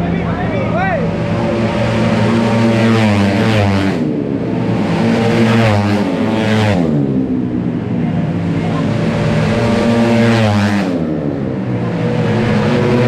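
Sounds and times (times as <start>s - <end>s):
drone of distant engines: 0.0s - 13.0s
racing scooters passing at full throttle: 0.0s - 13.0s.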